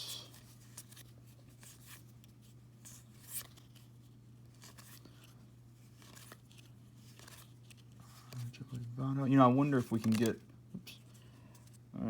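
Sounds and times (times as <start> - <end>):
trading cards rustling and clicking: 0.3 - 11.8.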